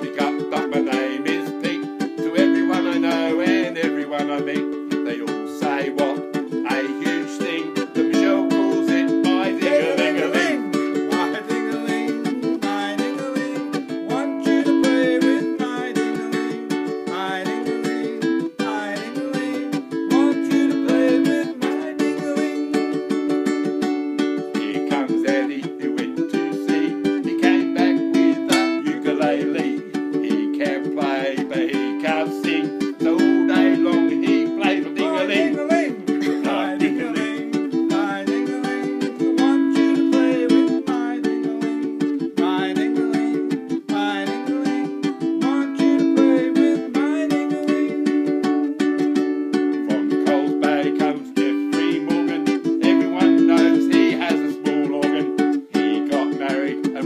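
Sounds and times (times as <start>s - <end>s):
men singing: 0.0s - 22.8s, 24.5s - 48.4s, 49.8s - 57.0s
ukulele strumming chords: 0.0s - 57.0s.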